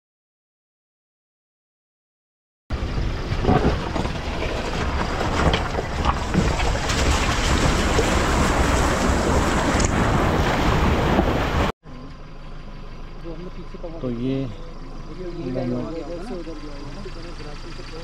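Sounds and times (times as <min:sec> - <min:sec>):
tyres on dirt track: 0:02.7 - 0:18.0
vehicle engine rumble: 0:02.7 - 0:18.0.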